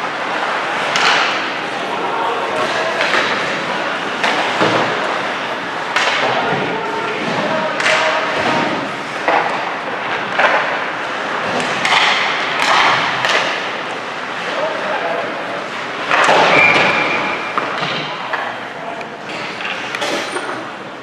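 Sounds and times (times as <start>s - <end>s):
crowd and player voices: 0.0s - 21.0s
puck and players hitting boards: 0.1s - 14.6s, 15.7s - 20.0s.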